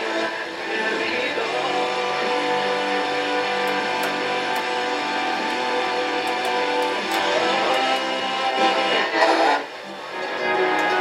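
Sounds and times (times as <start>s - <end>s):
guitar music from radio speakers: 0.0s - 11.0s.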